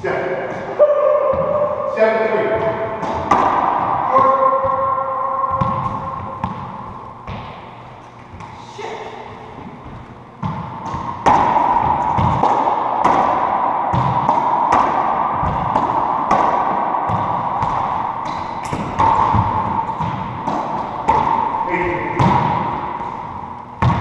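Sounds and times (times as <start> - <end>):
steady tone: 0.7 - 8.0, 10.6 - 24.0
rubber ball hitting racquets and walls: 1.2 - 24.0.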